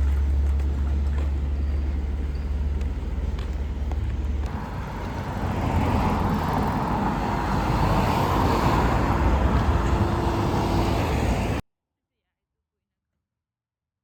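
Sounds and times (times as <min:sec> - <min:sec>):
vehicle passing: 0:00.0 - 0:11.6.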